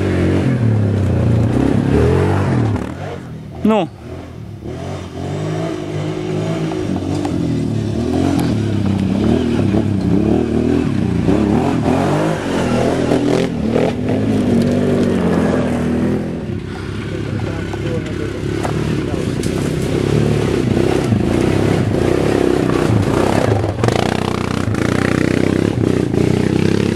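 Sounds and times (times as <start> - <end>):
quad bike engine revving: 0.0 - 26.9.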